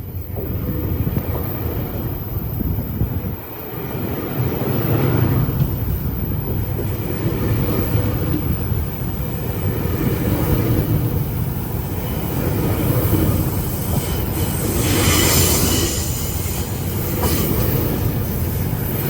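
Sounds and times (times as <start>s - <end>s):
diesel train rumbling: 0.0s - 19.0s.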